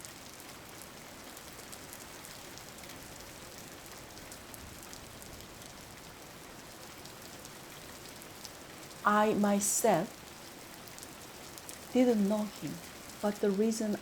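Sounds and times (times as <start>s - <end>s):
steady rain with drop ticks: 0.0s - 14.0s.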